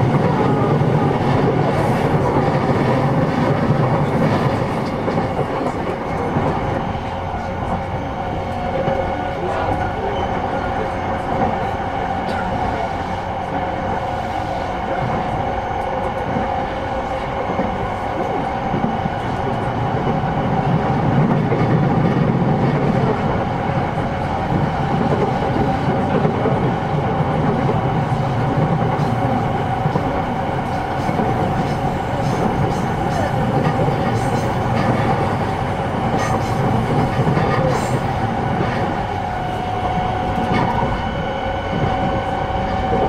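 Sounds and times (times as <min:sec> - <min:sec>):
steady train hum: 0:00.0 - 0:43.0
train wheel-on-rail rumble: 0:00.0 - 0:43.0.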